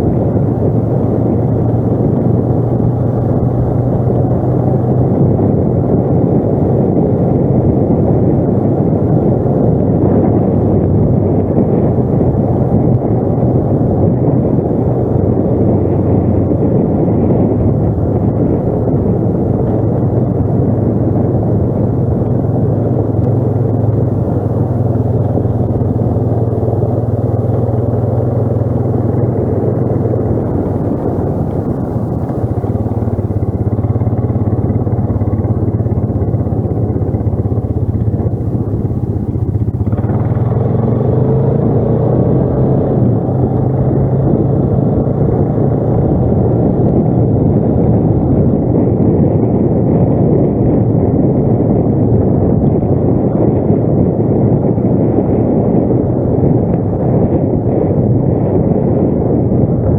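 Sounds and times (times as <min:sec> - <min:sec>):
quad bike engine droning: 0:00.0 - 0:59.9.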